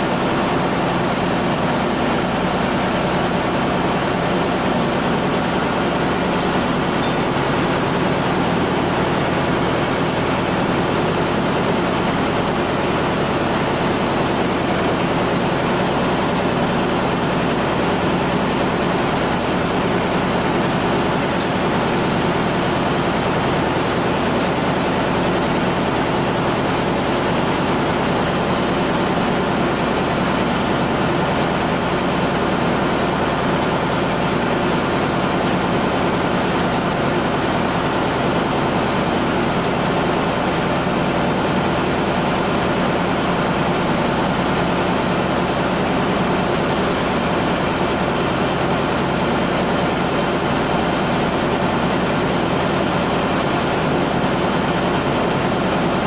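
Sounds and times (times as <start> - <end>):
engine-room machinery drone: 0.0 - 56.0.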